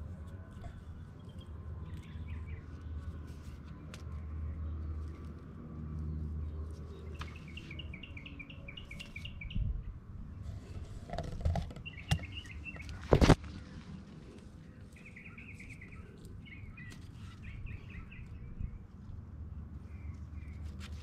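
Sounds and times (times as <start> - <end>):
songbird chirping: 1.0 - 10.6, 11.6 - 20.8.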